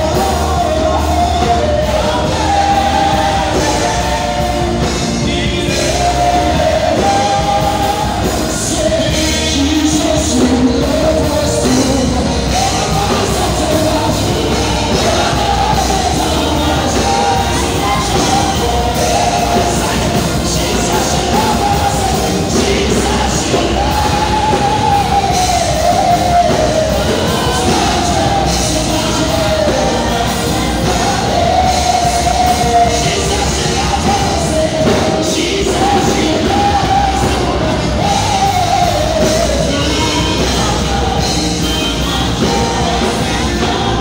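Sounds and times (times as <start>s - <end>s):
backing vocalists singing: 0.0s - 44.0s
drums: 0.0s - 44.0s
electric guitar: 0.0s - 44.0s
keyboard: 0.0s - 44.0s
lead singer: 0.0s - 44.0s.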